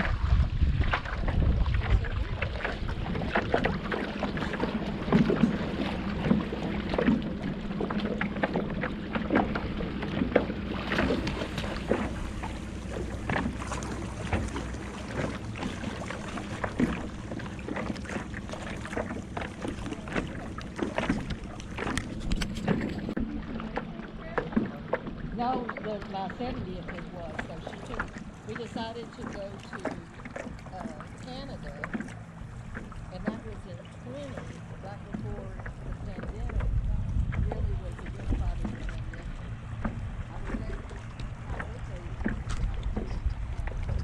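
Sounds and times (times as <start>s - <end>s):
paddle splashing in water: 0.0s - 44.0s
steady low hum: 0.0s - 44.0s
wind buffeting microphone: 0.0s - 44.0s.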